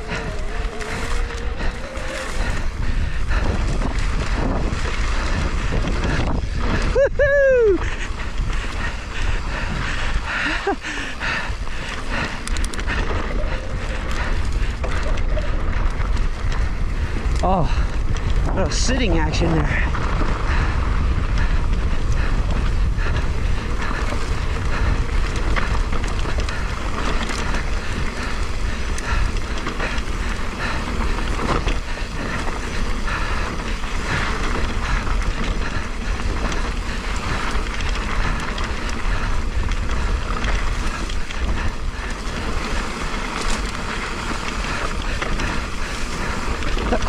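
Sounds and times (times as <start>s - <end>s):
bike clicks and rattles: 0.0s - 47.0s
wind buffeting microphone: 0.0s - 47.0s.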